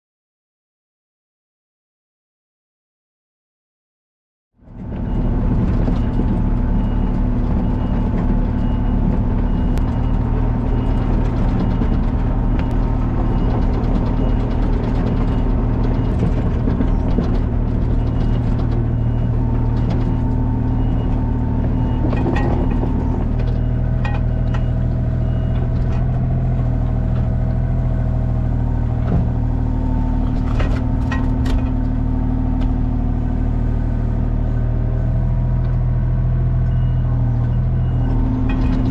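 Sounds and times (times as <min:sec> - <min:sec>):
large engine running: 0:04.6 - 0:38.9.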